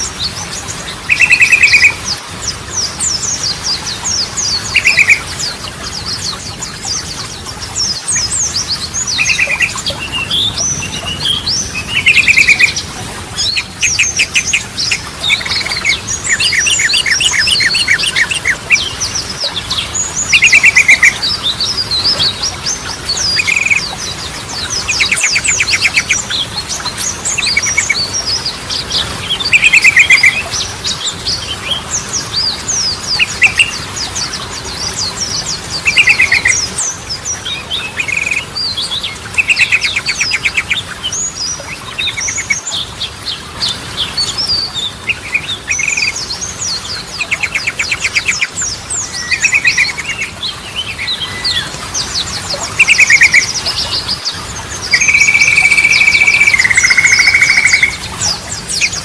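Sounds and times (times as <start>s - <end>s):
bird chirping: 2.8s - 59.0s.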